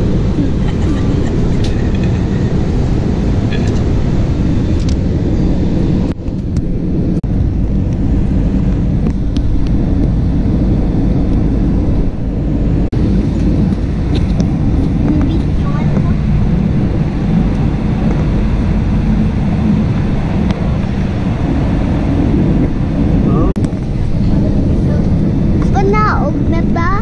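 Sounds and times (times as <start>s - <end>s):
jet airliner cabin rumble: 0.0s - 27.0s.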